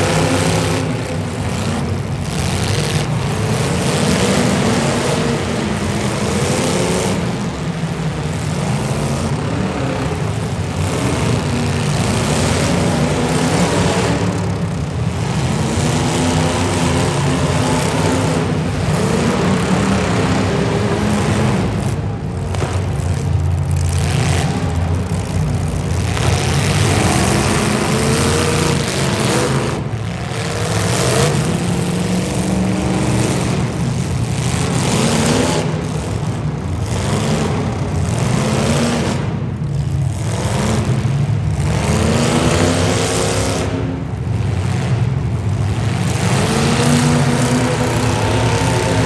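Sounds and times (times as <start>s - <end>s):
car engines revving hard: 0.0s - 49.0s.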